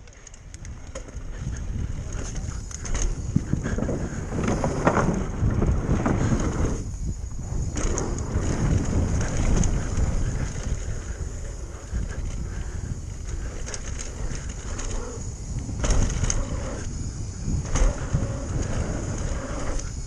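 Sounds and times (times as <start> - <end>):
bike knocks and rattles: 0.0 - 20.0
bike tyres rumbling over dirt: 0.0 - 20.0
wind buffeting microphone: 0.0 - 20.0.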